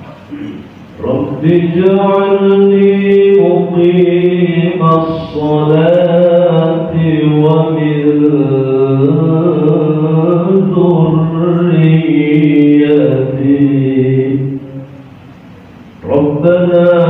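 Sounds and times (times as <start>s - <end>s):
person reciting melodically: 0.0s - 15.2s, 16.0s - 17.0s.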